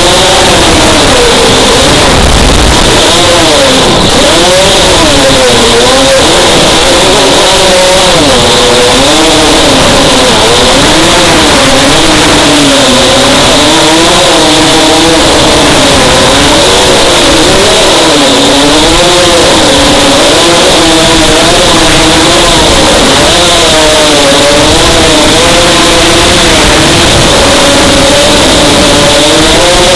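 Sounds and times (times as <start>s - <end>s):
quadcopter motors whining: 0.0s - 29.9s.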